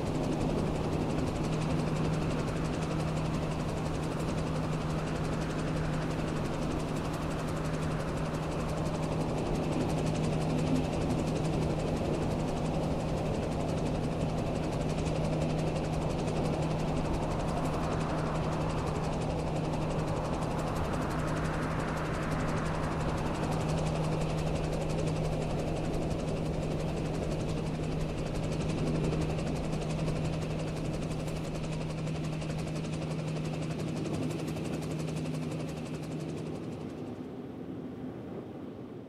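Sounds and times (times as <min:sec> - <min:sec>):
helicopter engine and rotor drone: 0:00.0 - 0:39.0
steady low hum: 0:00.0 - 0:39.0.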